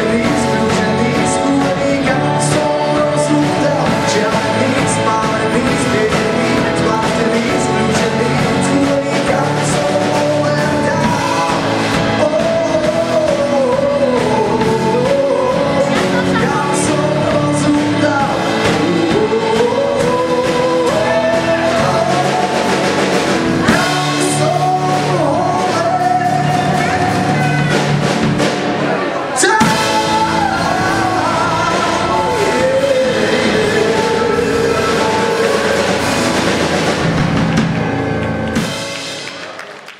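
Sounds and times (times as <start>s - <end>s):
man singing: 0.0s - 37.1s
drums: 0.0s - 39.9s.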